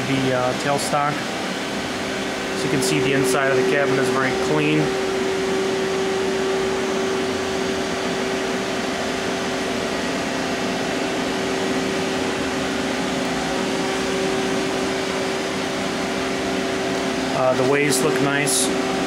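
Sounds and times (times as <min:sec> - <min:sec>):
lathe machine hum: 0:00.0 - 0:19.0.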